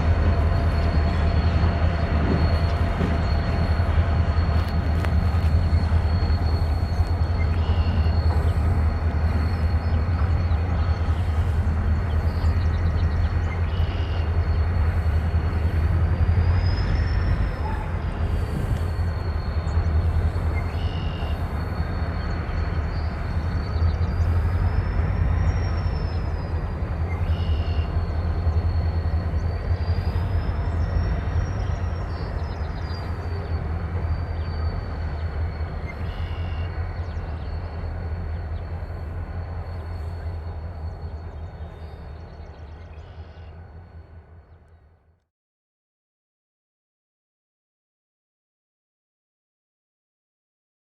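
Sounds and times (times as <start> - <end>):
freight train rumbling on rails: 0.0 - 45.3.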